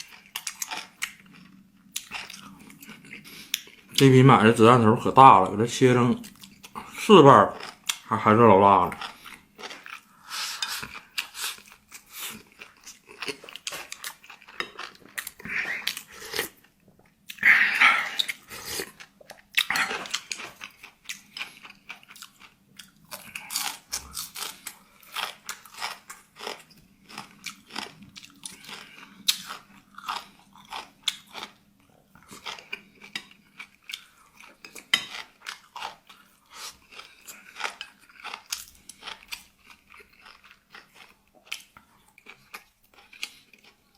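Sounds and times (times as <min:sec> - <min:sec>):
crunching chewing of crisp food: 0:00.0 - 0:04.2, 0:06.2 - 0:43.9.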